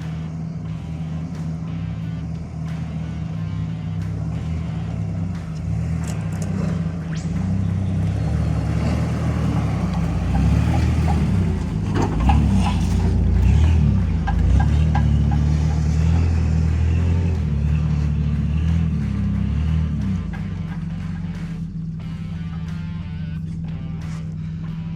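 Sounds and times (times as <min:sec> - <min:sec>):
car engine running at low revs: 0:00.0 - 0:24.9.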